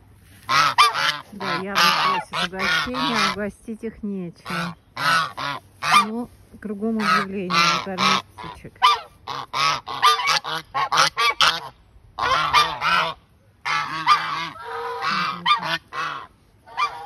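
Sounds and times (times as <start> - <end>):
geese honking: 0.0 - 3.8, 4.4 - 17.0.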